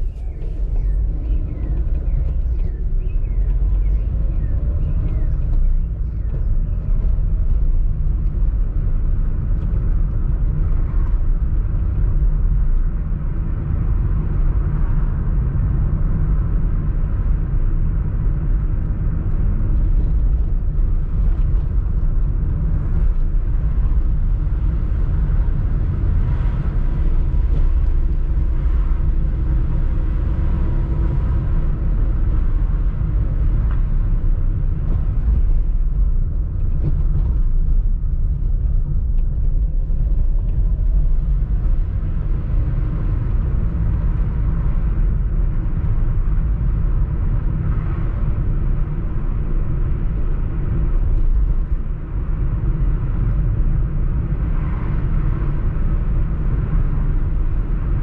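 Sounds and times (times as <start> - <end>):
road vehicles rumbling: 0.0 - 58.0.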